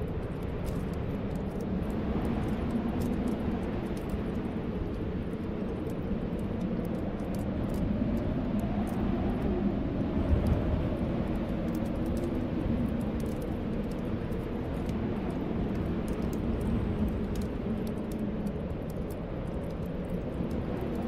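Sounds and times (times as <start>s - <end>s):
fireplace crackles: 0.0s - 21.0s
storm wind howling: 0.0s - 21.0s.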